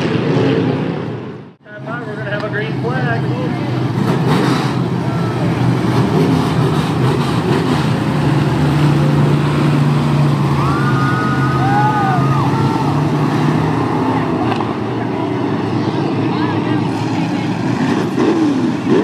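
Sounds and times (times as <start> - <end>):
low engine note: 0.0 - 19.0
race car engines roaring: 0.0 - 19.0.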